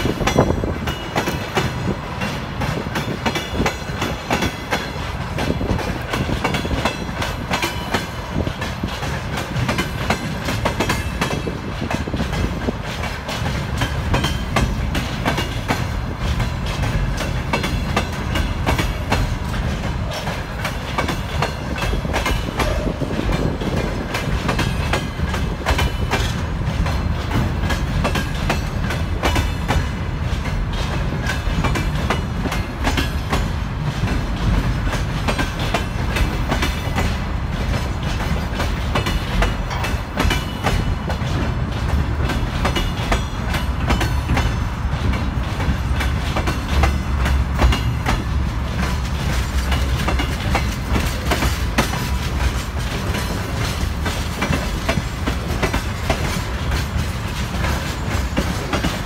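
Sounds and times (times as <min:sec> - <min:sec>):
train wheels rumbling on rail: 0:00.0 - 0:59.0
wheels clacking over rail joints: 0:00.0 - 0:59.0.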